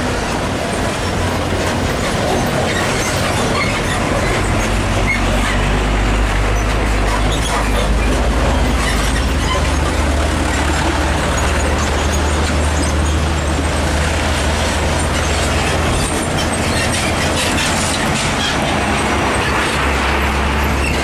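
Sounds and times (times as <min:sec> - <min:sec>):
diesel trucks driving past: 0:00.0 - 0:21.0
tyre and road noise: 0:00.0 - 0:21.0.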